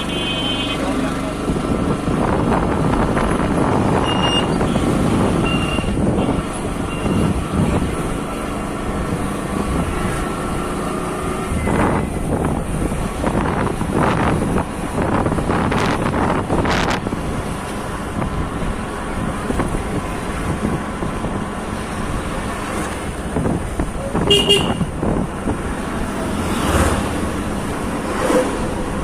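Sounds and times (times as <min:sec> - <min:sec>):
motorcycle engine and road noise: 0:00.0 - 0:29.0.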